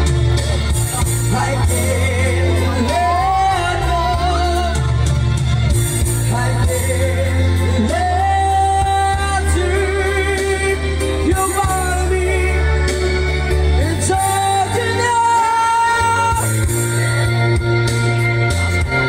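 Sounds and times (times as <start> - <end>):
backing track with bass: 0.0 - 19.0.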